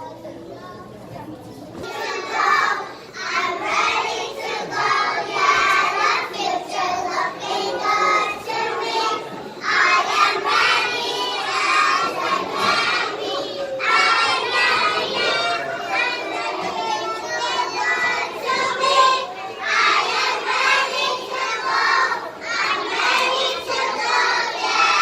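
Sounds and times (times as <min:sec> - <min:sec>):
children singing: 0:01.8 - 0:25.0.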